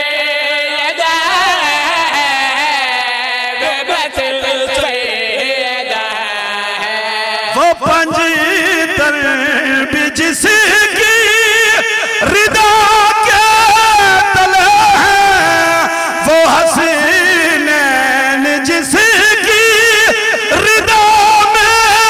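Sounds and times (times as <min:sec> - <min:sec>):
man chanting into a microphone: 0:00.0 - 0:22.0.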